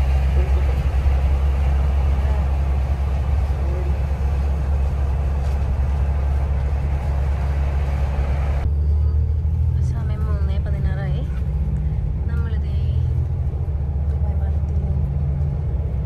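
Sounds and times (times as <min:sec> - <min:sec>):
coach engine and tyres rumbling: 0:00.0 - 0:16.0.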